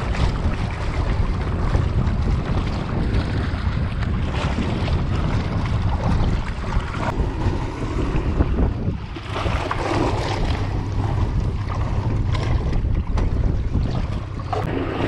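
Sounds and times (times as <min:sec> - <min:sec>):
boat motor running: 0:00.0 - 0:15.0
water rushing past hull: 0:00.0 - 0:15.0
wind buffeting microphone: 0:00.0 - 0:15.0.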